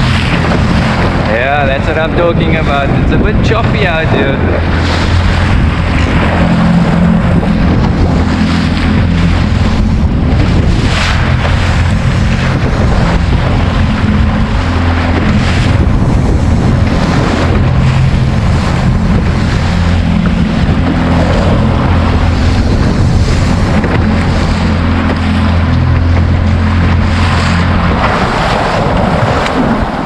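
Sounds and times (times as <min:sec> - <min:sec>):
boat motor droning: 0:00.0 - 0:30.0
water slapping hull: 0:00.0 - 0:30.0
wind buffeting microphone: 0:00.0 - 0:30.0.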